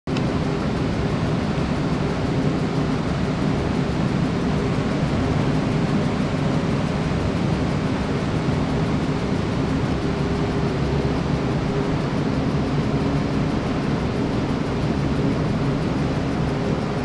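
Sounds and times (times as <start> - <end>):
steady rushing noise: 0.1 - 17.0.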